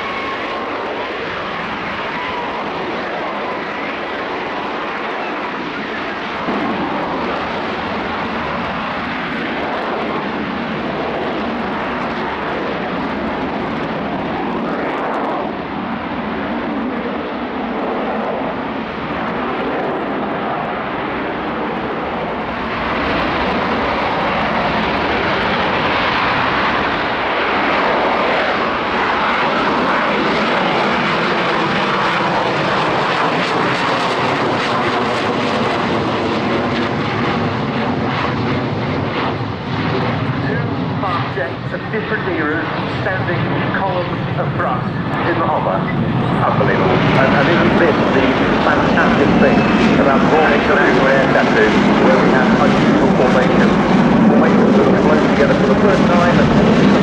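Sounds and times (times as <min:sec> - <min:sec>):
jet engine roaring: 0:00.0 - 0:57.0.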